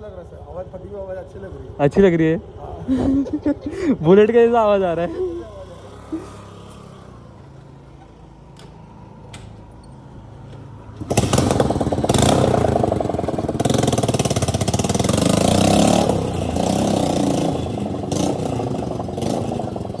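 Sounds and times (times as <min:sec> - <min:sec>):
motorcycle idling and revving: 0:00.0 - 0:20.0.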